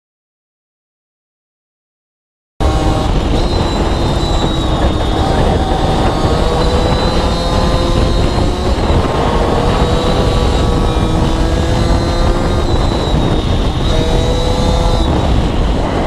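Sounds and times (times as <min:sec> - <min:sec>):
two-stroke engine running hard: 0:02.6 - 0:16.0
wind buffeting on microphone: 0:02.6 - 0:16.0.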